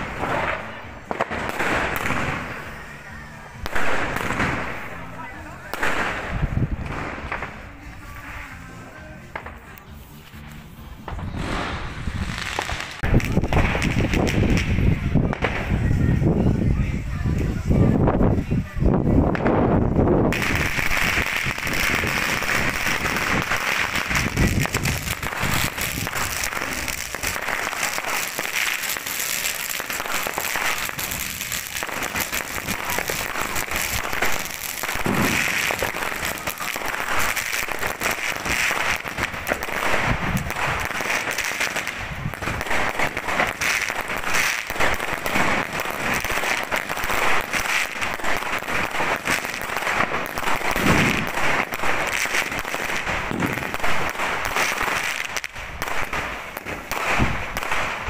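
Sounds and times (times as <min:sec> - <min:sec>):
deep fireworks booms: 0:00.0 - 0:08.6, 0:10.9 - 0:58.0
firecrackers crackling: 0:00.0 - 0:58.0.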